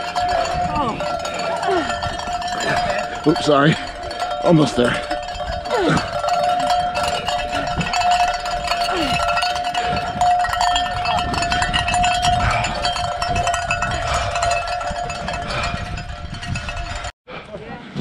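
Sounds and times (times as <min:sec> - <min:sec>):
cowbell shaken fast: 0:00.0 - 0:17.1.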